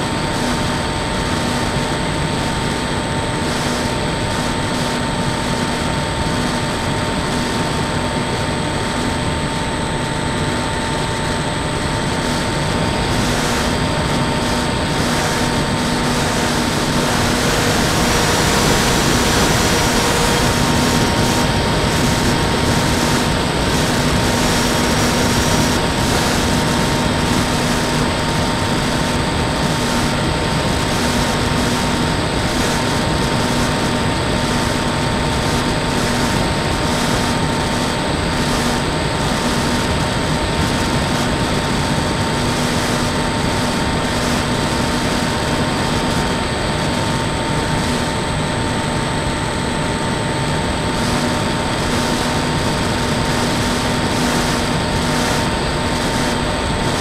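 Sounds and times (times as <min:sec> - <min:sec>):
electric motor and propeller hum: 0:00.0 - 0:57.0.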